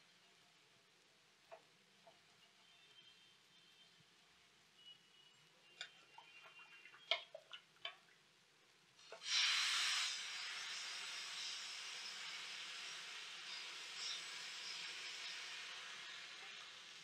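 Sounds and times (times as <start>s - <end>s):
batter sizzling on hot pan: 1.8s - 17.0s.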